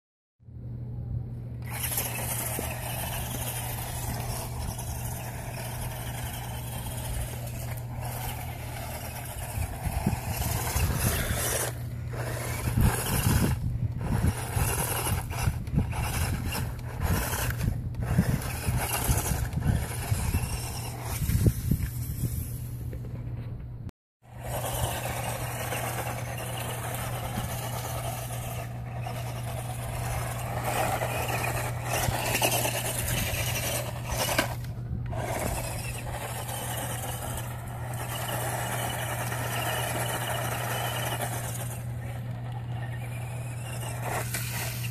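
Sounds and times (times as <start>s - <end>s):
toy car motor whining: 1.6s - 22.8s, 24.3s - 44.9s
gravel crunching under tyres: 1.6s - 23.4s, 24.2s - 44.9s.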